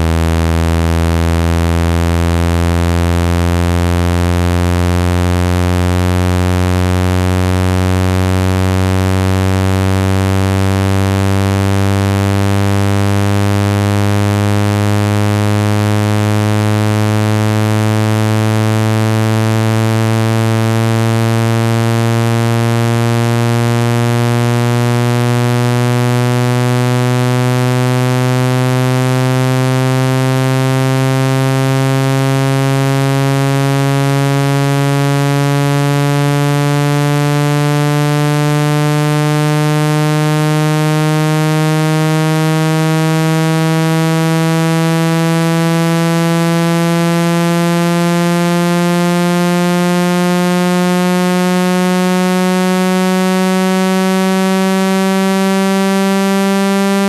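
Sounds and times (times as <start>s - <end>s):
buzzy tone rising in pitch: 0.0s - 57.0s.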